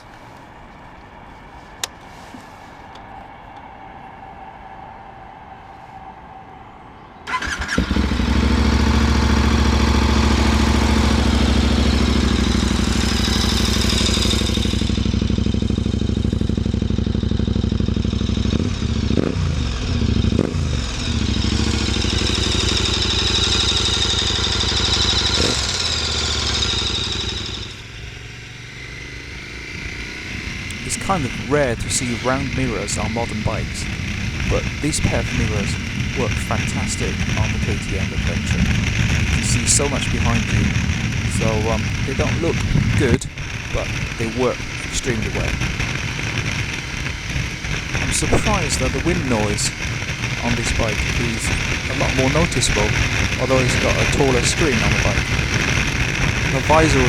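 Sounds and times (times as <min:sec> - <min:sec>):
motorcycle engine running: 0:07.4 - 0:57.0.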